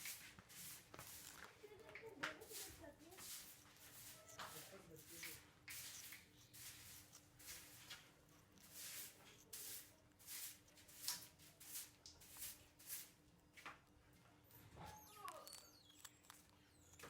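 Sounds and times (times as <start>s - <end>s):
parrot crunching chili: 0.1s - 13.8s, 15.3s - 17.0s.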